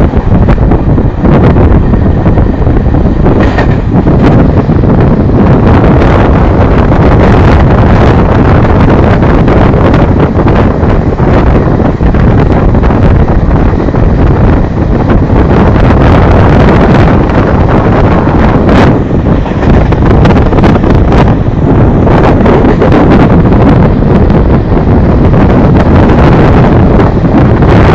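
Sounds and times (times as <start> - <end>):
passenger train rumbling: 0.0 - 27.9
wind buffeting microphone: 0.0 - 27.9.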